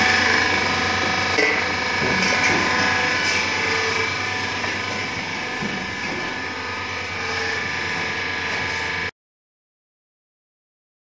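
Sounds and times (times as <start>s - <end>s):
machine whirring with whining tones: 0.0s - 9.1s.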